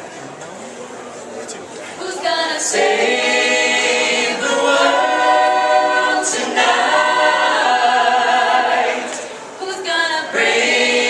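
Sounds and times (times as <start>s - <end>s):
vocal group singing a cappella: 2.0s - 11.0s.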